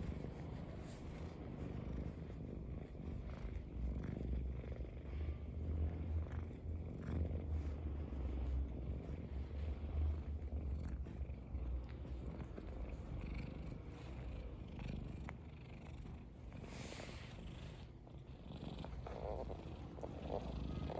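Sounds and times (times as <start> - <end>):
cat licking fur: 0.0 - 20.9
cat purring: 0.0 - 20.9.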